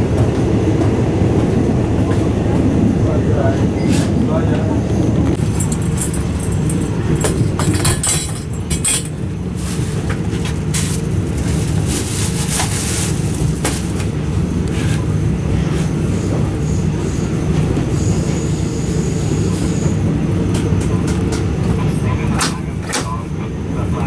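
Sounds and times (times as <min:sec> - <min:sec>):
train car rattling: 0:00.0 - 0:24.0
train wheels rumbling: 0:00.0 - 0:24.0.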